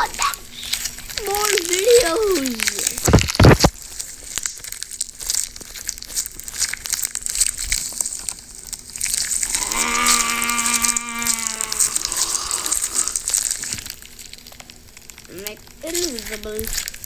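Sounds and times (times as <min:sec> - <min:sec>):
fine crackling and crinkling: 0:00.0 - 0:17.0.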